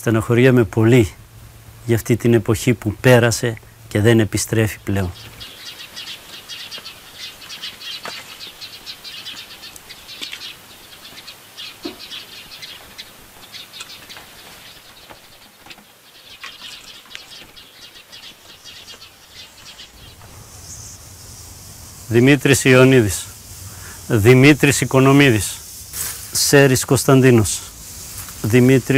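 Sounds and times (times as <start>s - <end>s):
steady high hiss: 0.0s - 28.9s
small birds chirping: 0.2s - 28.9s.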